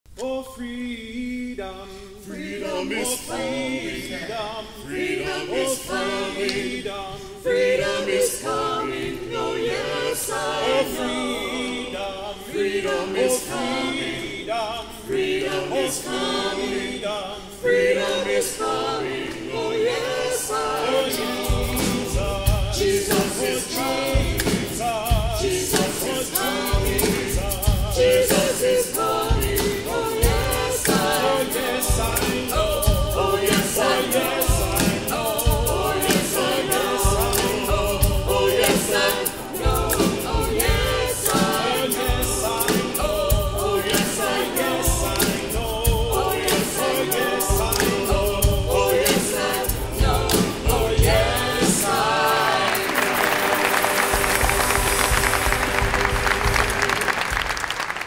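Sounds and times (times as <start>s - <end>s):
choir singing gospel: 0.1s - 58.0s.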